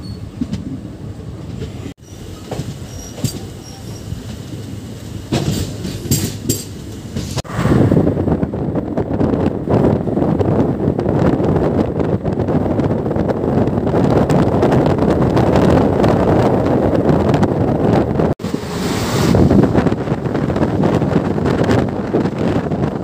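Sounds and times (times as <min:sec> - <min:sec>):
moving train rumble: 0:00.0 - 0:23.0
wind buffeting the microphone: 0:00.0 - 0:23.0.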